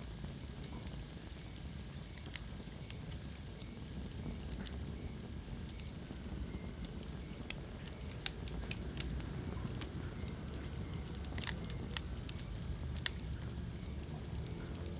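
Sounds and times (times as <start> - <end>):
fire flames rumbling: 0.0 - 14.9
logs crackling and popping: 0.2 - 14.9.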